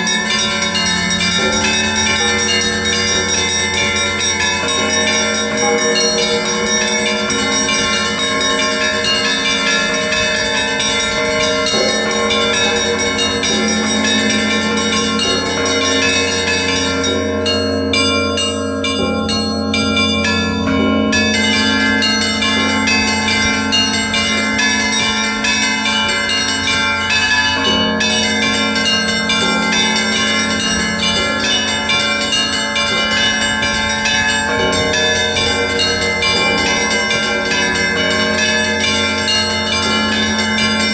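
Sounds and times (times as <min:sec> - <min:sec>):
deep bell hum: 0:00.0 - 0:40.9
many bells chiming: 0:00.0 - 0:40.9.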